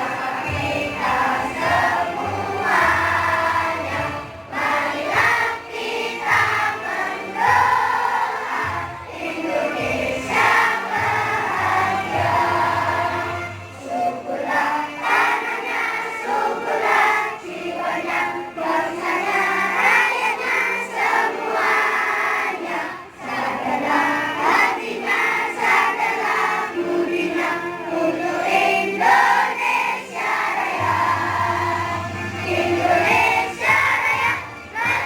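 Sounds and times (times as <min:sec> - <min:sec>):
group of voices singing: 0:00.0 - 0:35.0
musical accompaniment: 0:00.0 - 0:35.0.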